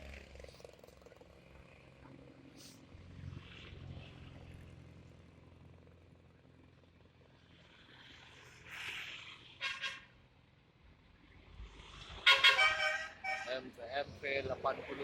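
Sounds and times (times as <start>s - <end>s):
diesel bus engine hum: 0.0s - 15.0s.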